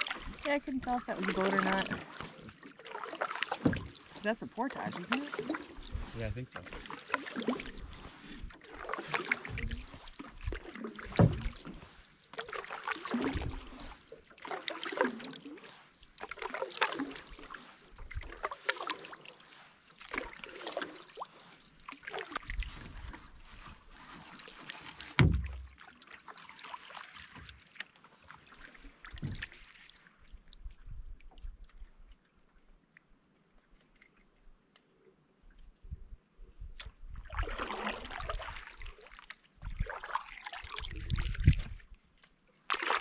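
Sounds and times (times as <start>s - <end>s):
canoe paddle strokes in water: 0.0s - 32.6s, 35.4s - 43.0s.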